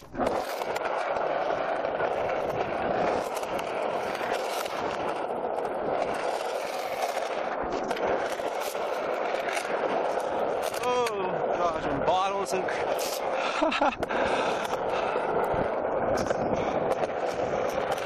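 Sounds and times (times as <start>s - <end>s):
skateboard wheels rolling on concrete: 0.0s - 18.0s.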